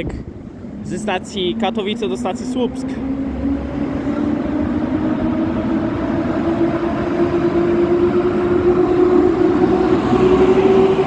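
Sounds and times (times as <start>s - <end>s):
electric locomotive humming: 0.0s - 11.0s.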